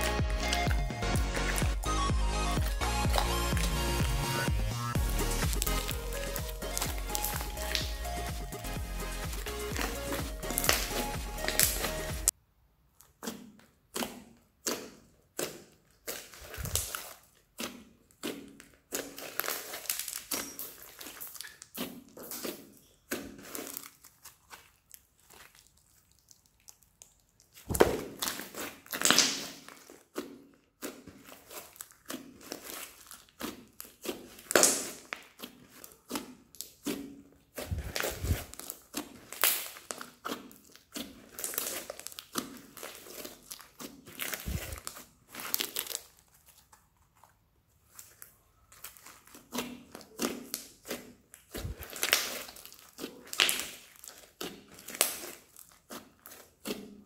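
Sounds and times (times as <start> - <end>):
crunchy slime crackling: 0.0 - 57.0.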